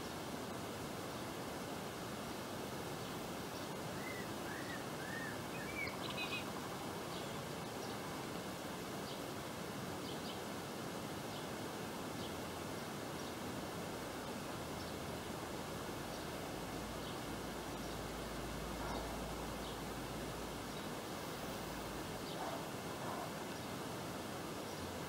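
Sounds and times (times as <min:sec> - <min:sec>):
background hiss: 0:00.0 - 0:25.0
small birds chirping: 0:02.2 - 0:09.4, 0:10.0 - 0:10.5, 0:12.2 - 0:25.0.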